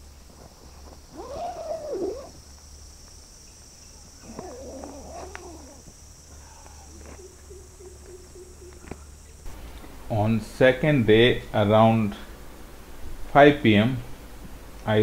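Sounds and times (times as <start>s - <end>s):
low wavering insect calls: 0.0s - 13.0s
insect chorus: 0.0s - 15.0s.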